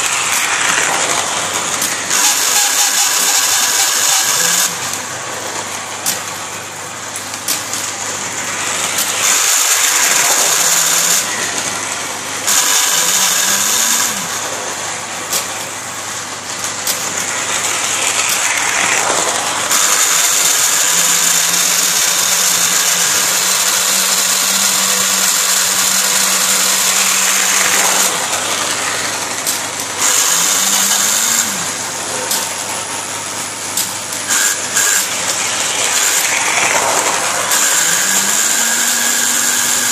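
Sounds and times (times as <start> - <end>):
toy crane motor whirring: 0.0 - 39.9.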